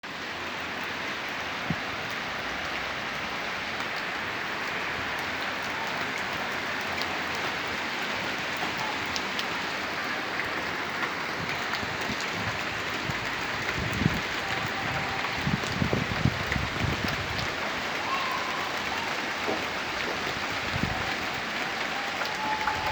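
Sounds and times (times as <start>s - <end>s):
steady rain hiss: 0.1s - 22.9s
raindrop clicks: 3.8s - 7.8s, 8.4s - 22.9s.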